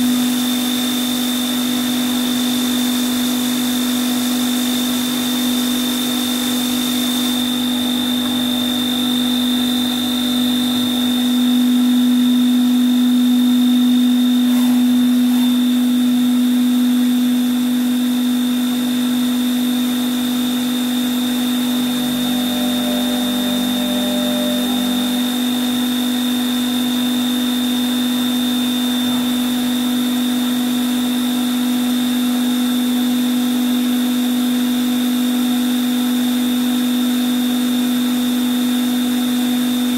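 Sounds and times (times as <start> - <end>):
machine hum and whine: 0.0 - 39.9.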